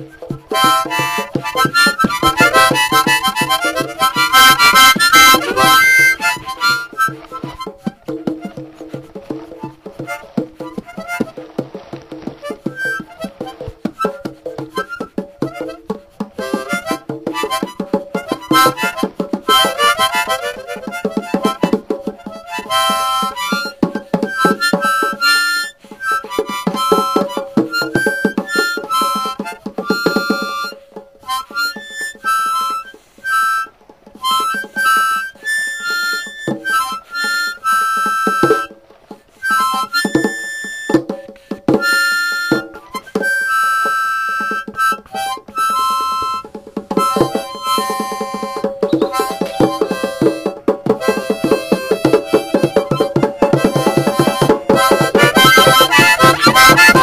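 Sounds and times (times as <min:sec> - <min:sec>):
harmonica: 0:00.0 - 0:57.0
rhythmic musical accompaniment: 0:00.0 - 0:57.0.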